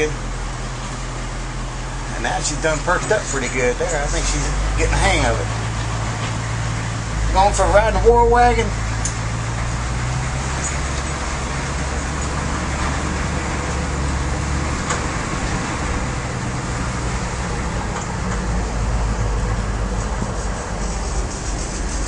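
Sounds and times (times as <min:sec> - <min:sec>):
diesel engine drone: 0:00.0 - 0:22.0
road noise: 0:00.0 - 0:22.0.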